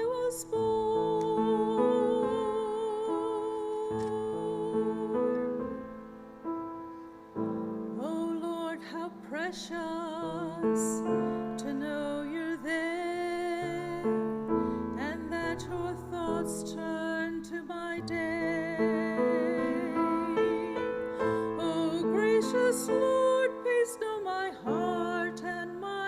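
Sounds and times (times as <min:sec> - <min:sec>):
gentle worship piano music: 0:00.0 - 0:26.0
held melody with vibrato: 0:00.0 - 0:26.0.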